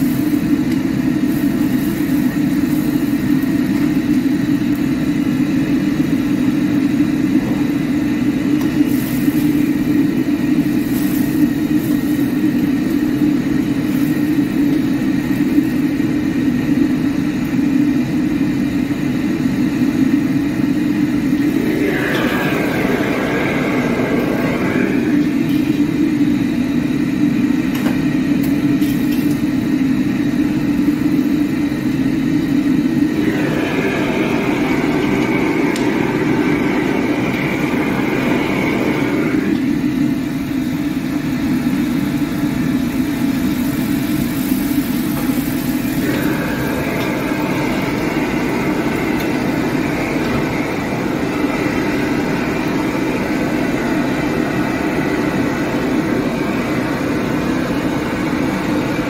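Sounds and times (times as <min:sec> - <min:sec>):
gas burner roaring: 0:00.0 - 0:59.0
hissing burner layer: 0:00.0 - 0:59.0.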